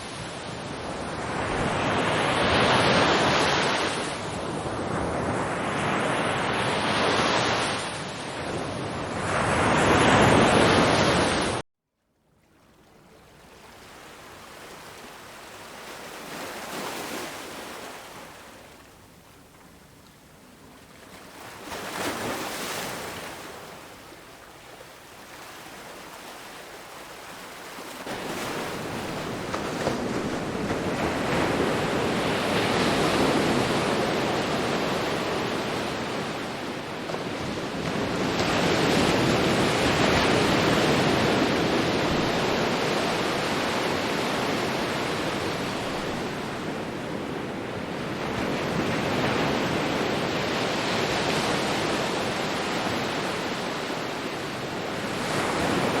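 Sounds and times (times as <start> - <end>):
waves breaking on shore: 0.0 - 11.6, 12.4 - 56.0.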